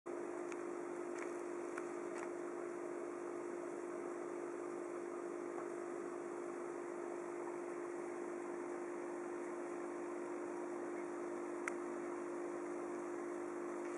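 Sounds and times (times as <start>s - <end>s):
aquarium pump humming and hissing: 0.1s - 13.9s.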